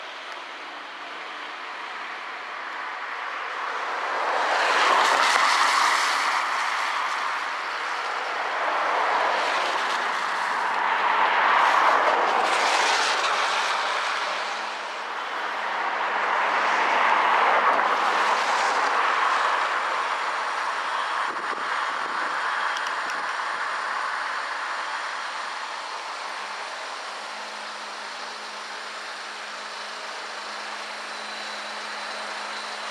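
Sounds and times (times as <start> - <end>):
vehicles passing close by: 0.0 - 32.9.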